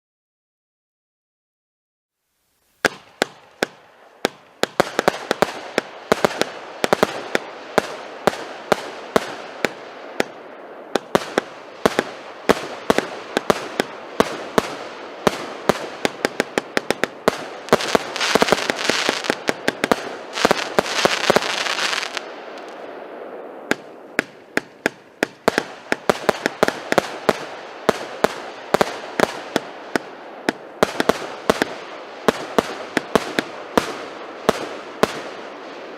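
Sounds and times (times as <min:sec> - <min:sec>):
firework crackling hiss: 0:02.3 - 0:35.9
firework battery pops and bangs: 0:02.8 - 0:22.8, 0:23.7 - 0:35.4.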